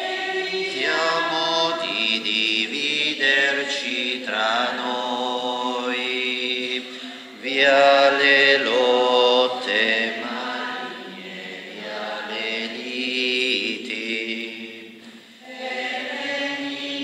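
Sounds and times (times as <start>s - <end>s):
voices singing a hymn: 0.0s - 17.0s.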